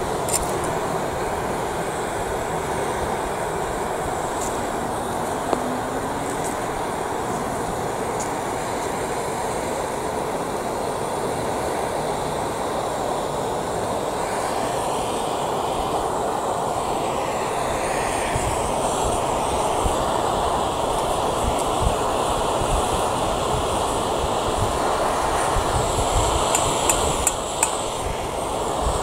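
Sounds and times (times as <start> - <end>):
blowtorch flame hissing: 0.0 - 29.0.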